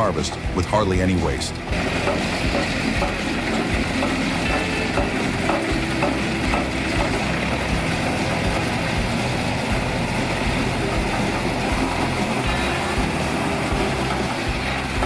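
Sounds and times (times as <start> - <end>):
farm machine engine running: 0.0 - 15.0.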